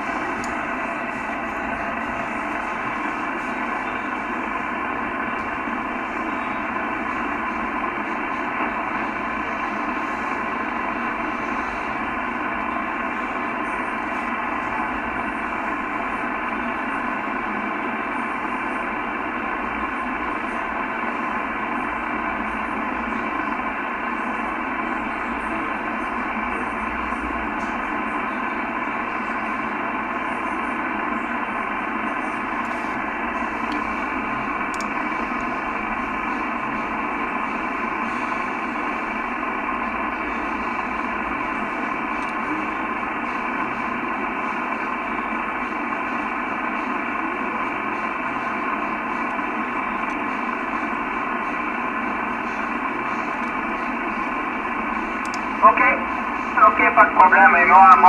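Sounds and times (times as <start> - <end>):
radio band noise hiss: 0.0 - 58.0.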